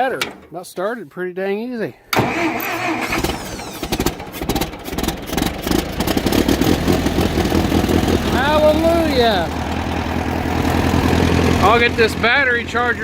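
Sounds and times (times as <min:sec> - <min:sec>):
tractor engine running unevenly: 0:02.2 - 0:13.0.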